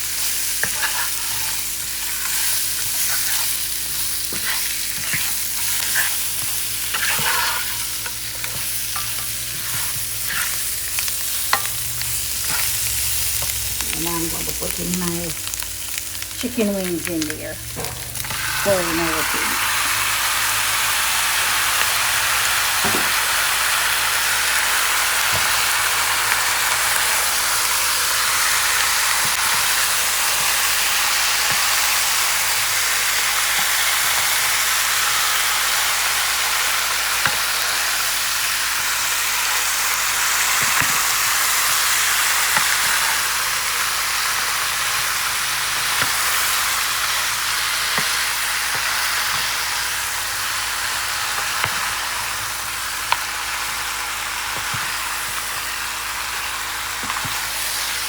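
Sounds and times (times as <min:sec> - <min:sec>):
chicken frying sizzle: 0:00.0 - 0:58.0.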